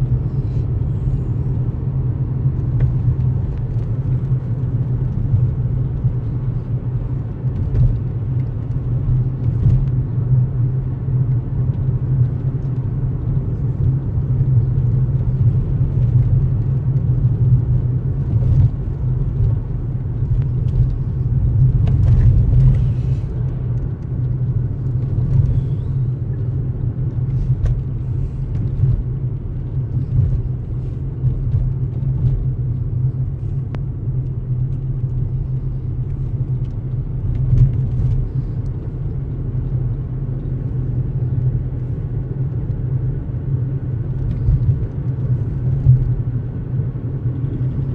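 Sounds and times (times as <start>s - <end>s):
car engine and tyres rumbling: 0.0s - 47.9s.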